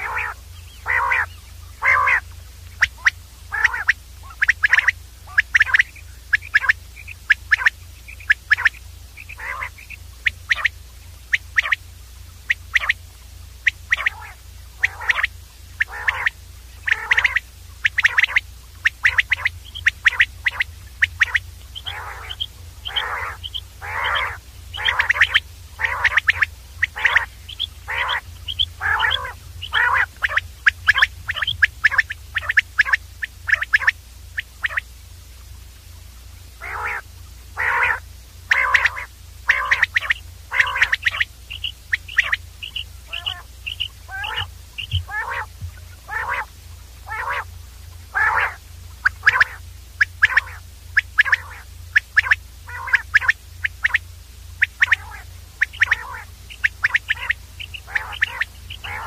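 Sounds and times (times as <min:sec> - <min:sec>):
quail calling: 0:00.0 - 0:34.9, 0:36.6 - 0:59.0
steady low hum: 0:00.0 - 0:59.0.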